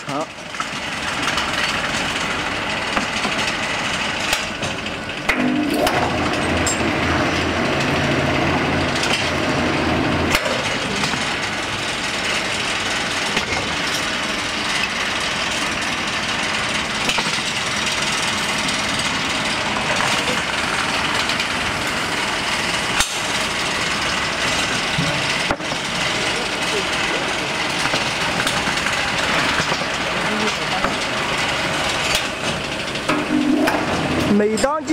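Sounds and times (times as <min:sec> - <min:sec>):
machine mechanical clatter: 0:00.1 - 0:34.9
low electric motor hum: 0:00.3 - 0:34.7.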